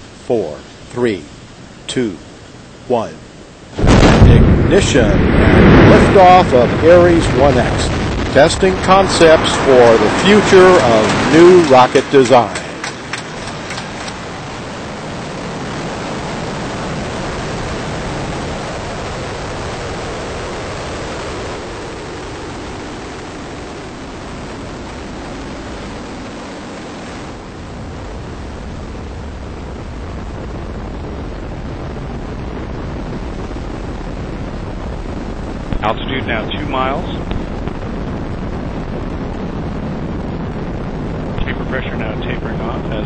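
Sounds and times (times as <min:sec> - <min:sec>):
rocket motor roaring: 0:00.0 - 0:43.0.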